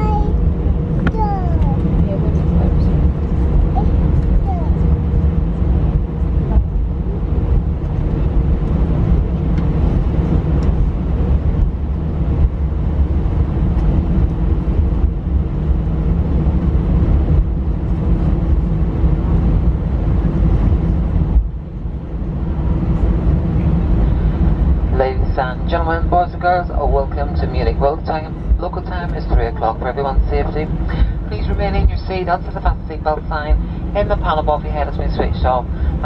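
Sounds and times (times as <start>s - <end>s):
jet engines humming: 0.0s - 36.0s
low rumble of wheels: 0.0s - 36.0s.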